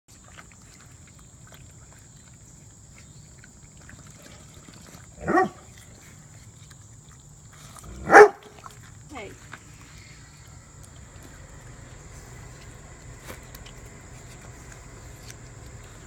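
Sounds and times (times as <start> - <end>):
fawns chewing watermelon: 0.1 - 16.0.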